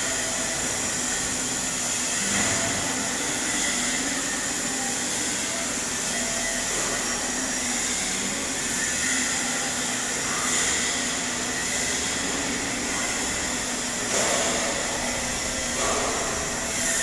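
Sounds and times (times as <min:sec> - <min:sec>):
welding arc hissing: 0:00.0 - 0:17.0.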